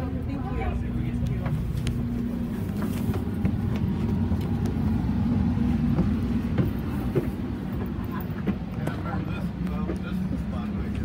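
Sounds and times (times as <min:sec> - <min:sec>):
train coach low rumble: 0:00.0 - 0:11.0.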